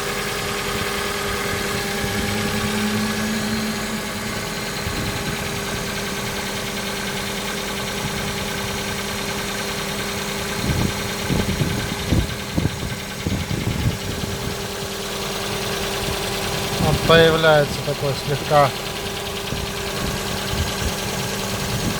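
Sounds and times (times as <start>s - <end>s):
car engine idling: 0.0s - 21.9s
engine knocking: 0.0s - 21.9s.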